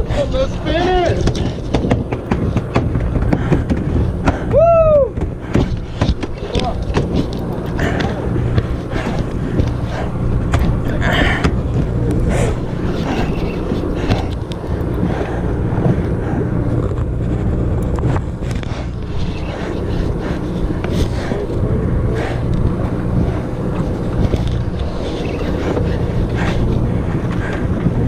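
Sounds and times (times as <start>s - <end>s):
boat engine droning: 0.0s - 28.0s
wind on microphone: 0.0s - 28.0s.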